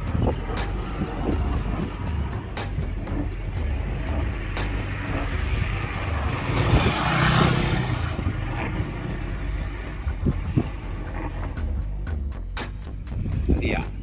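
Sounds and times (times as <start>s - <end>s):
rushing wind: 0.0s - 14.0s
wind buffeting microphone: 0.0s - 14.0s.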